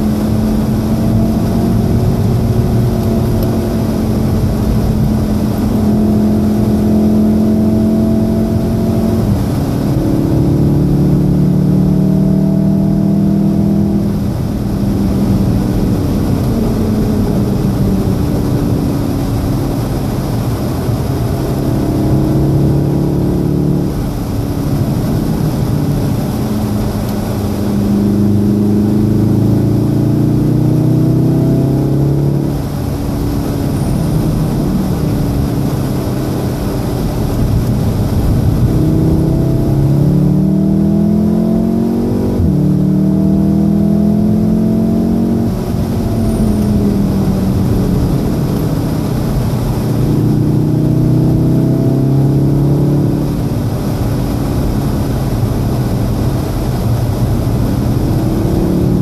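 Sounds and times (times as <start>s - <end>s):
car engine revving from inside: 0.0s - 59.0s
tyre and road noise: 0.0s - 59.0s.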